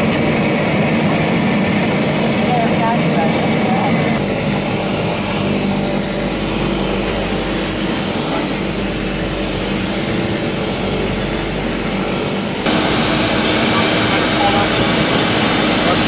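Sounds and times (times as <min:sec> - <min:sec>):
high engine whine: 0:00.0 - 0:16.0
turboprop engines running: 0:00.0 - 0:16.0.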